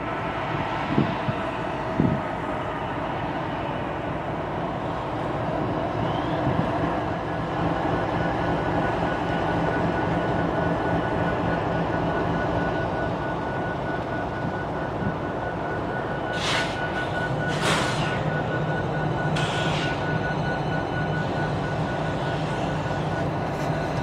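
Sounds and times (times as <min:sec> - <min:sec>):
locomotive engine drone: 0:00.0 - 0:24.0.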